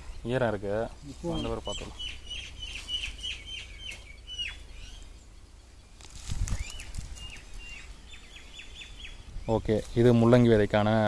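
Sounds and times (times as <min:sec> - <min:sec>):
birds chirping: 0:00.0 - 0:11.0
low rumble and rustle: 0:00.0 - 0:11.0.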